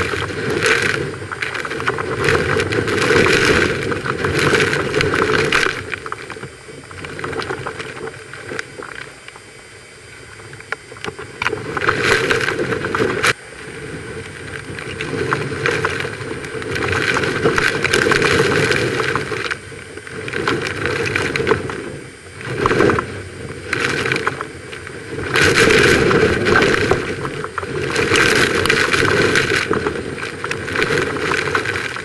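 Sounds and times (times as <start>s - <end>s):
strong wind buffeting microphone: 0.0s - 32.0s.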